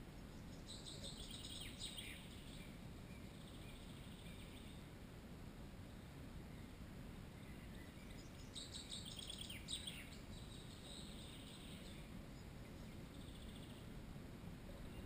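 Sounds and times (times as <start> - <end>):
songbird singing: 0.0 - 5.1, 5.8 - 15.0.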